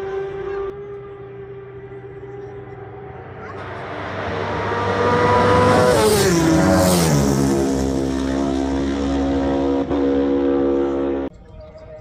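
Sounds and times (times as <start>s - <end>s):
racing motorcycle passing at speed: 0.0s - 11.3s.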